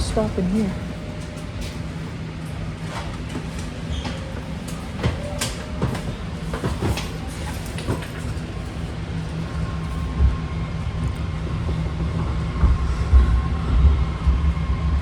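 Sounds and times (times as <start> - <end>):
train knocks: 0.0 - 15.0
train rumbling on rails: 0.0 - 15.0.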